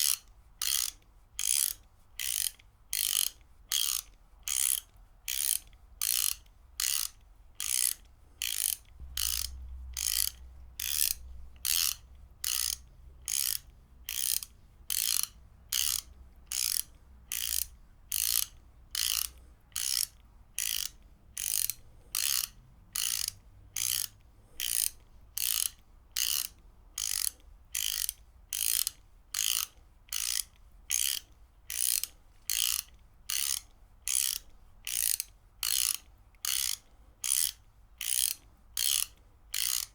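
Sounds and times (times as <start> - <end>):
ratchet wrench clicking: 0.0 - 39.9.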